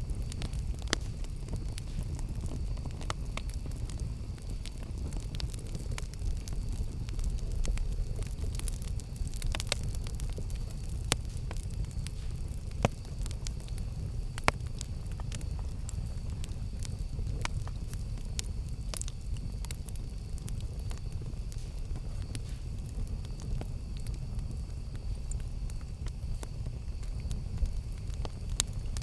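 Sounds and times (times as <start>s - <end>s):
campfire flames rushing: 0.0s - 29.0s
fire crackling and popping: 0.0s - 29.0s.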